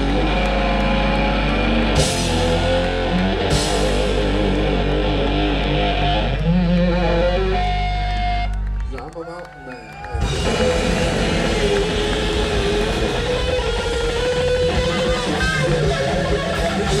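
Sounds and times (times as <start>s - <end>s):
bass and drums: 0.0s - 8.8s, 10.0s - 17.0s
distorted electric guitar: 0.0s - 8.8s, 10.1s - 17.0s.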